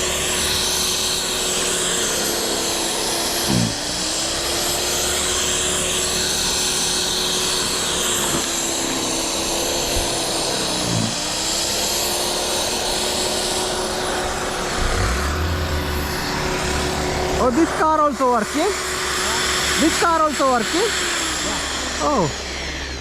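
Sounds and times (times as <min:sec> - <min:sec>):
snowblower engine running: 0:00.0 - 0:23.0.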